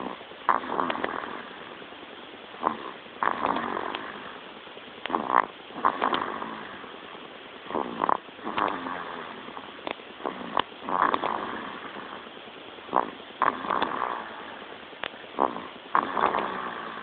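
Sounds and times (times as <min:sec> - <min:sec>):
baby snoring: 0:00.0 - 0:01.8, 0:02.5 - 0:17.0.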